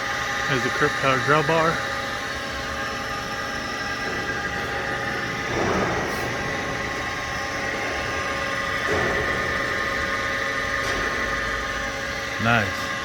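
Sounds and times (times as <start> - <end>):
milling machine humming and whining: 0.0 - 13.0.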